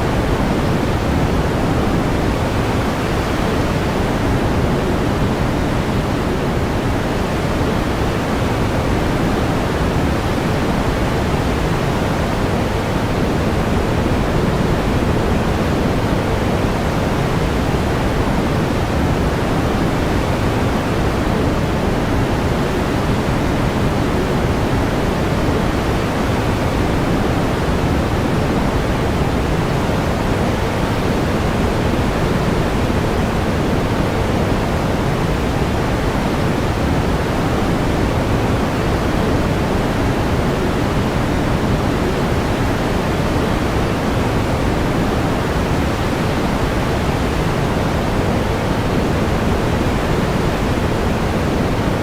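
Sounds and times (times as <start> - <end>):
pink noise hiss: 0.0 - 52.0.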